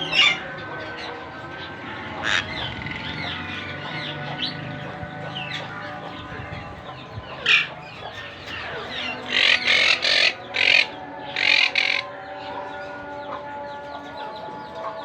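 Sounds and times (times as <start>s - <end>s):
parakeets squawking: 0.0s - 12.3s.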